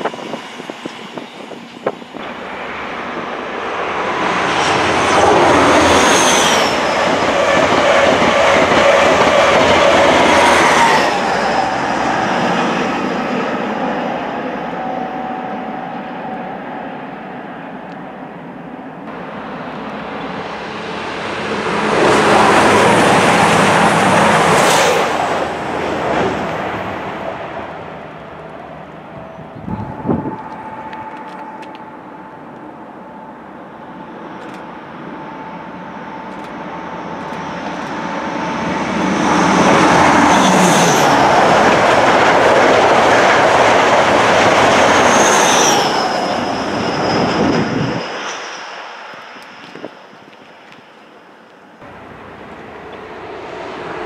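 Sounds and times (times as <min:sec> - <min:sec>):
train whine: 0:00.0 - 0:54.0
trains passing at speed: 0:00.0 - 0:54.0.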